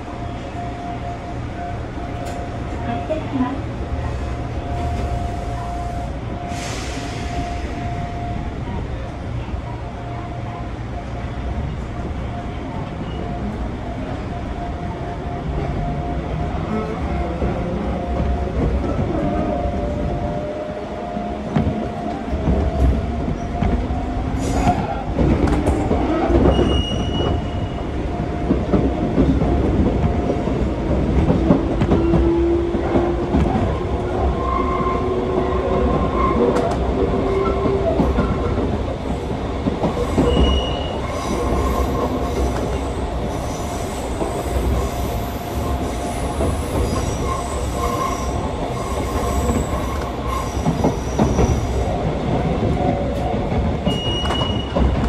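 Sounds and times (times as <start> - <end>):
train wheels rumbling on rail: 0.0 - 55.0
rail joint clicks: 1.6 - 3.4, 10.9 - 55.0.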